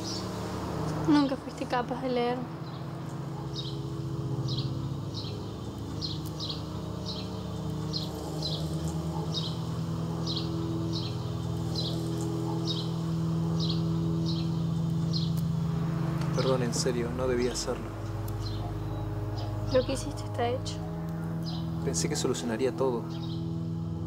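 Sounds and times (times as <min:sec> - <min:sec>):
bird chirping: 0:00.0 - 0:24.0
low steady drone: 0:00.0 - 0:24.0.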